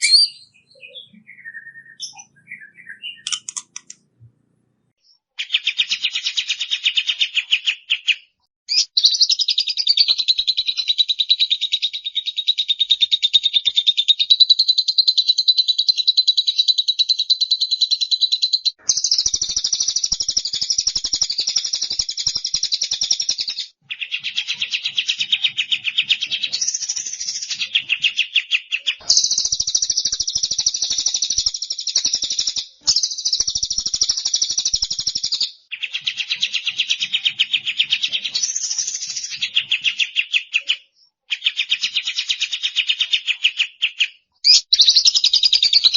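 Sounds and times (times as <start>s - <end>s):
songbird trills: 0.0s - 4.0s, 5.0s - 45.9s.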